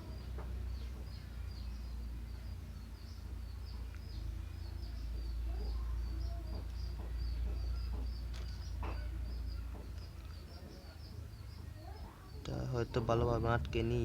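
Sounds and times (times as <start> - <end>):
low background rumble: 0.0 - 14.0
small birds chirping: 0.0 - 14.0.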